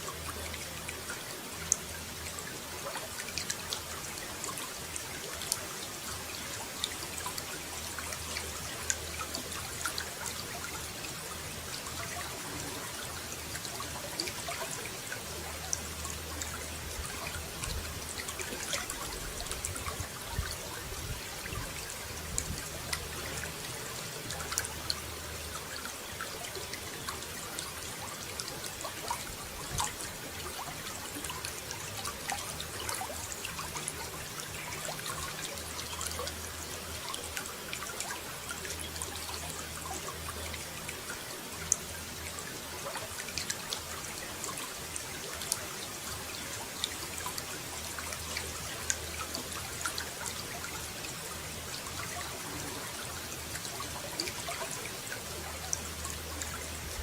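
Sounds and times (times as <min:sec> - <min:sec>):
small splashes and drips: 0:00.0 - 0:57.0
water running and trickling: 0:00.0 - 0:57.0.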